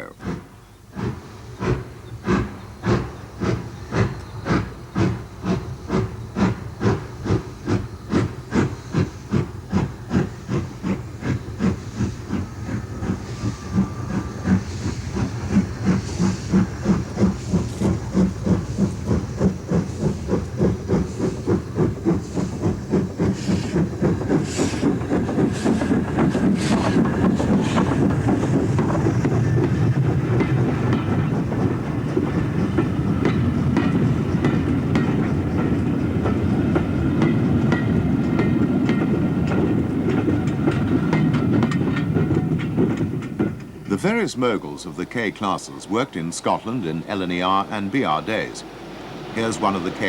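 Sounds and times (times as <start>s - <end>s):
steam locomotive exhaust beats: 0.0s - 50.0s.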